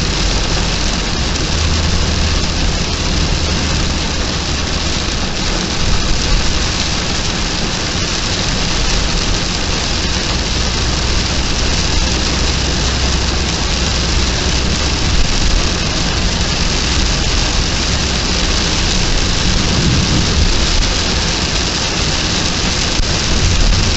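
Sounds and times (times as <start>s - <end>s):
heavy rain hiss: 0.0s - 23.9s
low rumble: 0.0s - 23.9s.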